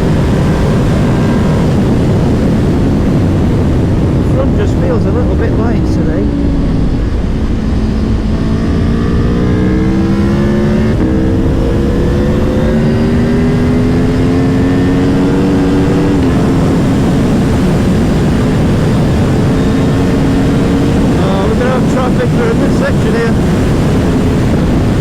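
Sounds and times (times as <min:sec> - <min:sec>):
motorcycle engine accelerating: 0:00.0 - 0:25.0
wind rush on microphone: 0:00.0 - 0:25.0.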